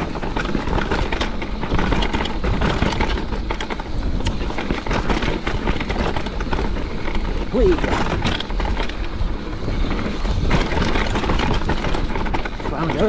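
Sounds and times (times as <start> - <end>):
bike clicks and rattles: 0.0 - 13.0
tyres on dirt: 0.0 - 13.0
wind rumble on microphone: 0.0 - 13.0.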